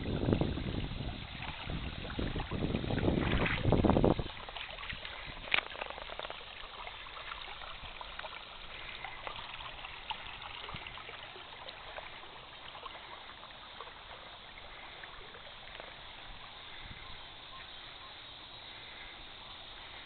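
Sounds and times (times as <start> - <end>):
stream trickling over rock: 0.0 - 20.0.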